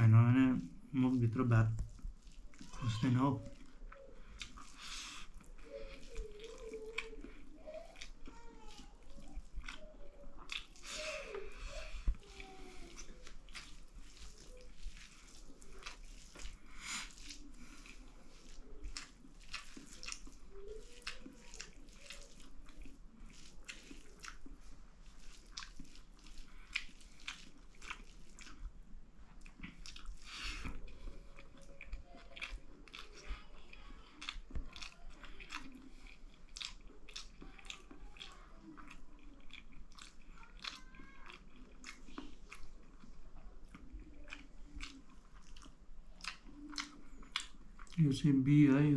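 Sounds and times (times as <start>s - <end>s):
person chewing and smacking: 0.2s - 48.9s.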